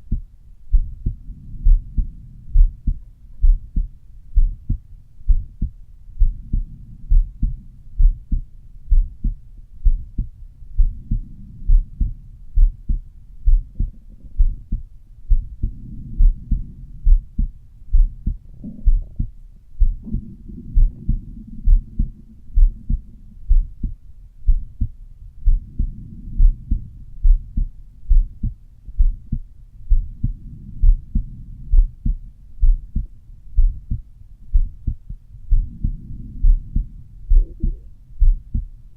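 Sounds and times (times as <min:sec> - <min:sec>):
heartbeat thumps: 0:00.0 - 0:38.8
low rushing heart murmur: 0:00.0 - 0:38.8.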